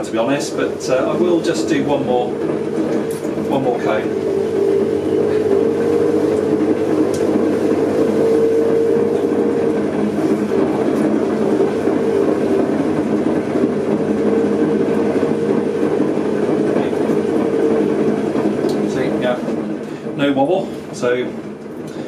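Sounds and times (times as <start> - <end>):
potter's wheel humming and whining: 0.0 - 22.0.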